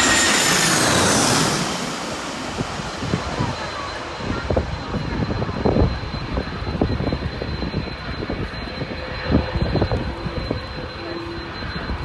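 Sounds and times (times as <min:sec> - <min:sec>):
jet engines rushing rumble: 0:00.0 - 0:12.0
thin high engine whine: 0:00.0 - 0:12.0.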